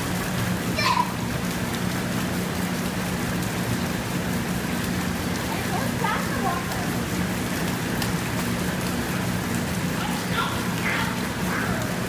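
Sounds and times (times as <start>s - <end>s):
steady low hum: 0.0s - 12.0s
water running and splattering: 0.0s - 12.0s.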